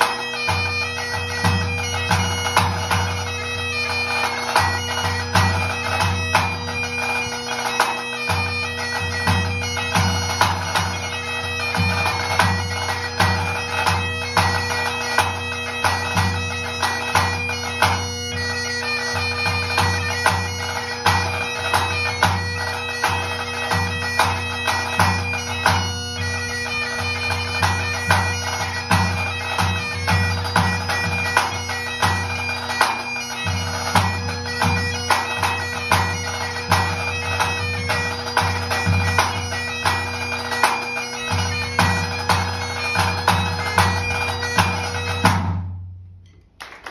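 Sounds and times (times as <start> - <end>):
tenor drum beating: 0.0 - 18.4, 19.2 - 45.8
bagpipe playing over drones: 0.0 - 45.3.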